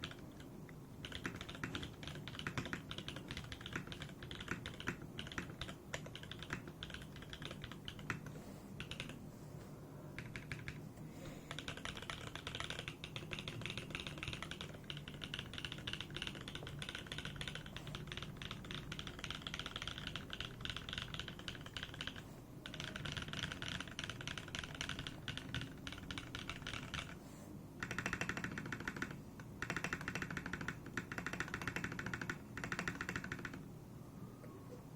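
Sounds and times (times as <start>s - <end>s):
typing on mechanical keyboard: 0.0s - 9.2s, 10.2s - 10.8s, 11.5s - 27.2s, 27.8s - 33.6s.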